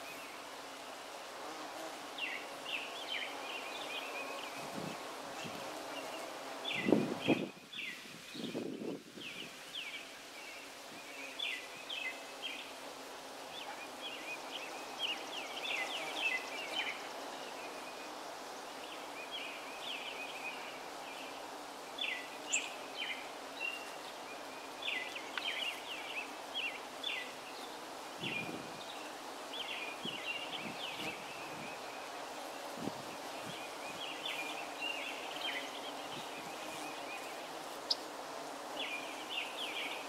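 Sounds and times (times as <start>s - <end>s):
bees buzzing: 0.0s - 7.5s, 10.7s - 40.0s.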